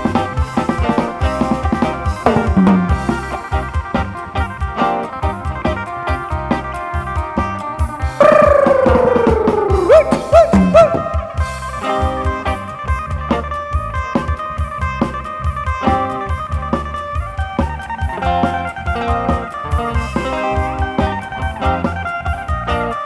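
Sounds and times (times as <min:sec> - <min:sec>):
drum kit steady beat: 0:00.0 - 0:23.0
electric plucked lute melody: 0:00.0 - 0:23.0.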